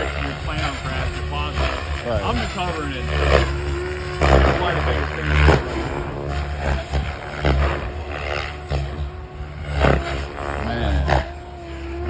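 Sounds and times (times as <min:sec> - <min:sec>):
low rumble: 0:00.0 - 0:12.0
rc helicopter whine: 0:00.0 - 0:12.0.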